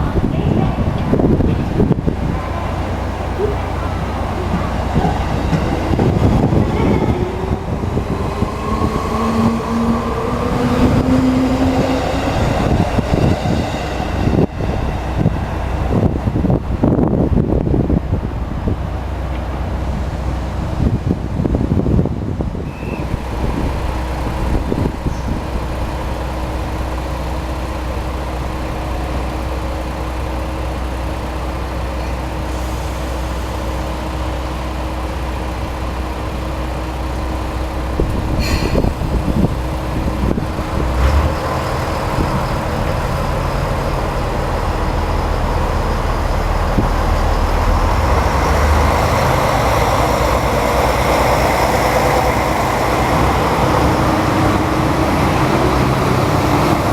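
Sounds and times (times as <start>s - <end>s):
train running: 0.0s - 56.9s.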